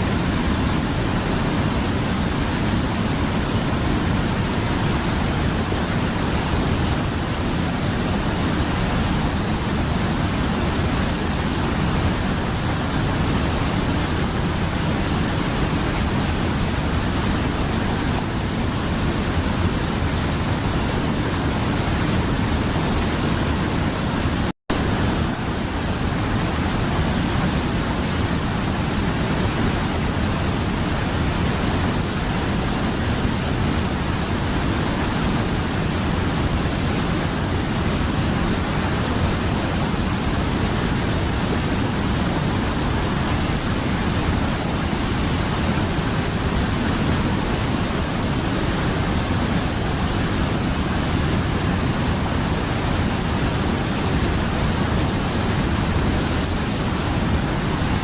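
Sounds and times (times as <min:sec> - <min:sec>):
mountain river rushing: 0:00.0 - 0:58.0.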